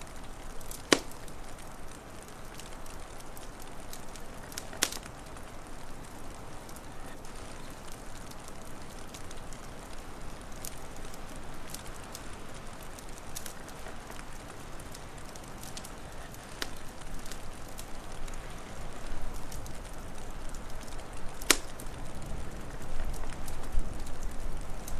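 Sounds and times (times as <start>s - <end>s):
fire popping: 0.0s - 24.9s
wood fire crackling: 0.0s - 24.9s.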